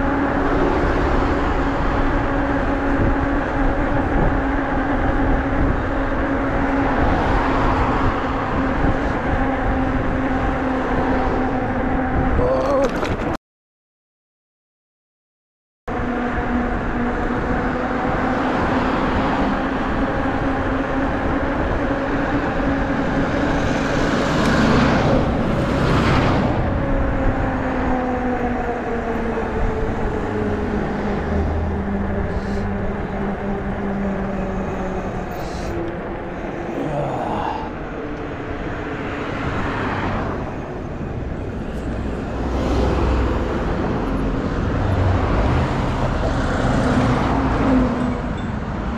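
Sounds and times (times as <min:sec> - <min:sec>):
cars passing whoosh: 0:00.0 - 0:12.4, 0:16.1 - 0:28.0, 0:29.1 - 0:48.9
electric bike hum: 0:00.0 - 0:13.4, 0:15.9 - 0:48.9
wind on microphone: 0:00.0 - 0:13.4, 0:15.9 - 0:48.9.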